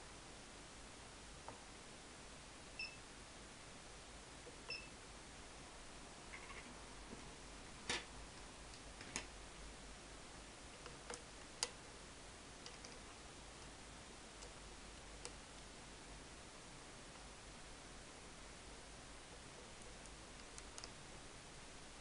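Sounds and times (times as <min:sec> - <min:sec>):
low hiss and hum: 0:00.0 - 0:22.0.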